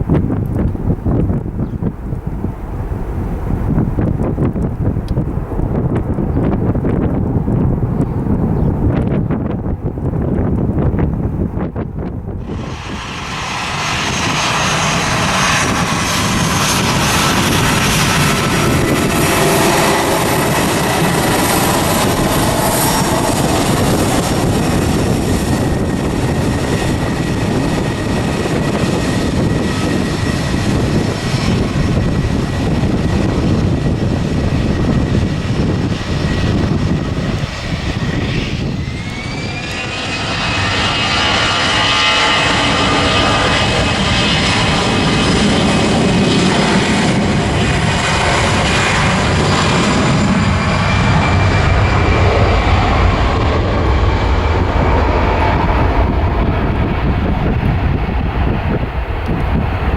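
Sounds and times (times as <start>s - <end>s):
jet engines roaring: 0.0s - 59.9s
rising jet engine whine: 0.0s - 59.9s.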